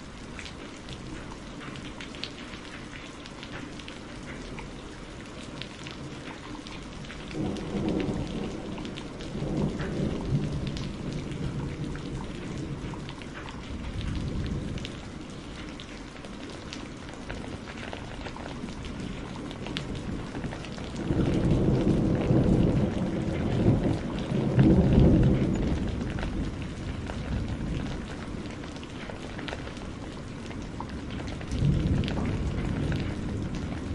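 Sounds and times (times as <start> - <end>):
steady rain falling: 0.0 - 33.9
thunder rumbling: 6.0 - 33.9.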